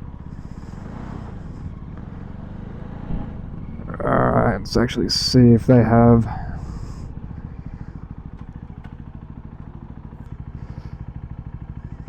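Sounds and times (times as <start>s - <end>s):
motorcycle engine puttering: 0.0s - 12.0s.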